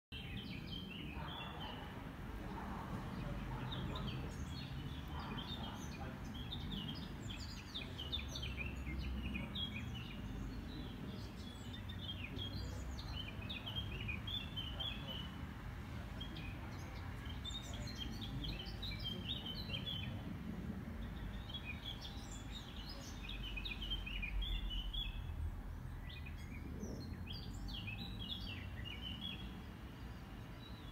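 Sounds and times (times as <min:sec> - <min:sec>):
songbirds chirping: 0:00.1 - 0:30.9.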